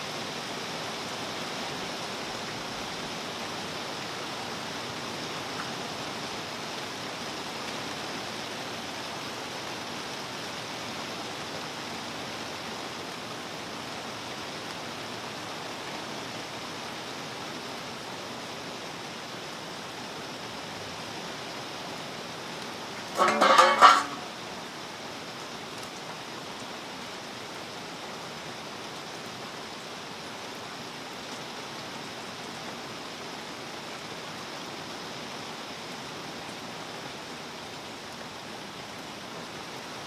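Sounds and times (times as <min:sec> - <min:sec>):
rain falling on pond: 0:00.0 - 0:40.0.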